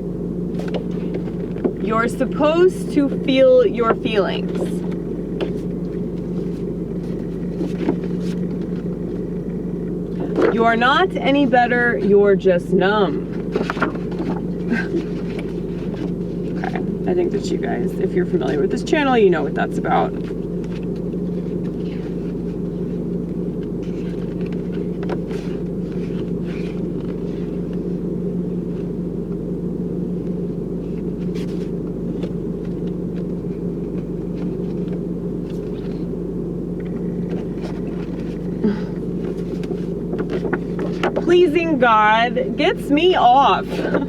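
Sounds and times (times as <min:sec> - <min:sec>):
low rumble with hum: 0:00.0 - 0:44.0.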